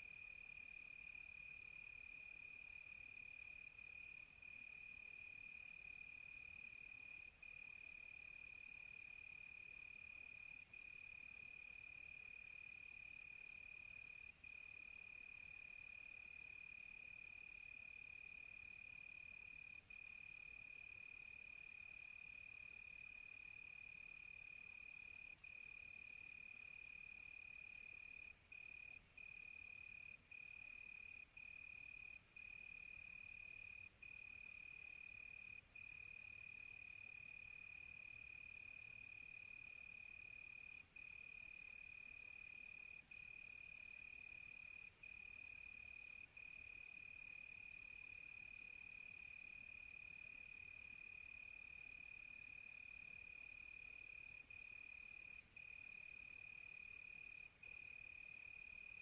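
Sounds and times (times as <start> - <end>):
faint high insect trill: 0.0 - 59.0.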